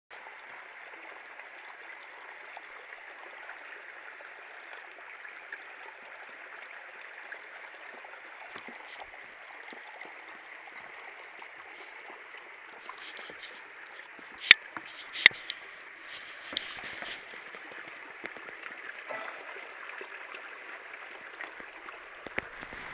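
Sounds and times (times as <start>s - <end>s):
small stream flowing: 0.1s - 22.9s.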